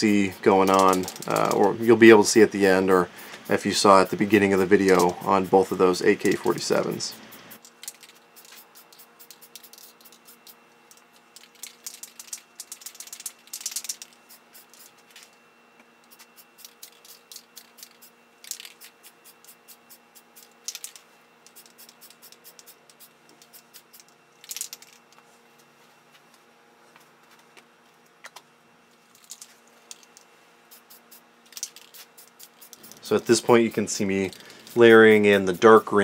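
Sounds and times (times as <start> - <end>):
spray paint hissing: 0.0 - 15.1, 16.0 - 24.9, 30.7 - 36.0
spray can ball rattling: 0.1 - 2.4, 3.2 - 5.2, 6.0 - 15.3, 16.0 - 25.0, 29.1 - 35.9.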